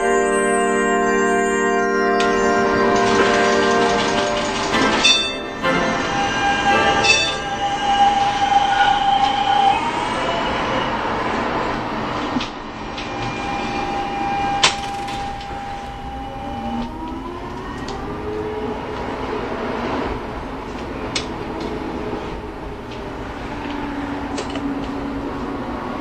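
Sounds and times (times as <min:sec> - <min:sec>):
rising whine: 0:00.0 - 0:26.0
tram running on rails: 0:00.0 - 0:26.0.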